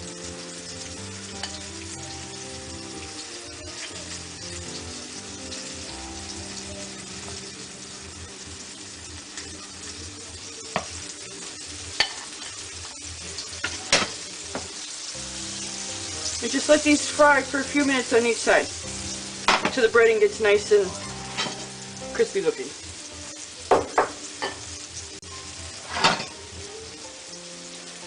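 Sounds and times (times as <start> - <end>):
cutlets sizzling in a pan: 0.0 - 28.0.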